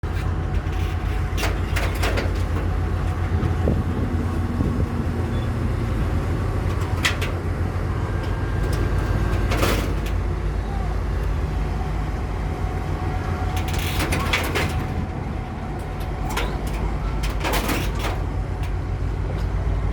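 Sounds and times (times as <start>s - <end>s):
boat diesel engine droning: 0.0s - 19.9s.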